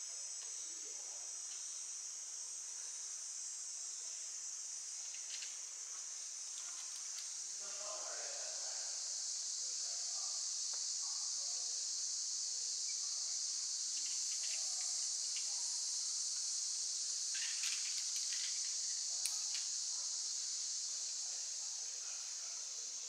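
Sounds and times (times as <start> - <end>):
insects chirping in woods: 0.0 - 23.0.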